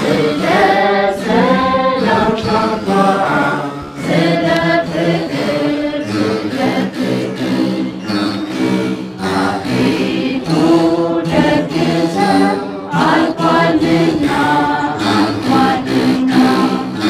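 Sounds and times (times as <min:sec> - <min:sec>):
women singing a hymn together: 0:00.0 - 0:08.0, 0:08.6 - 0:17.0.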